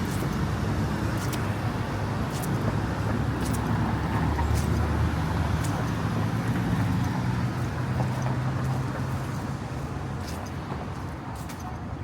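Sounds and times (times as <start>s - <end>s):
street traffic: 0.0s - 12.0s
vehicle engine humming nearby: 0.0s - 12.0s.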